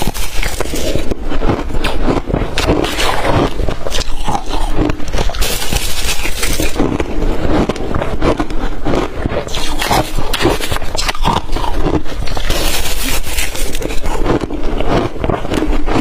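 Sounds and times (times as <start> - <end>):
person chewing crushed ice: 0.0 - 16.0.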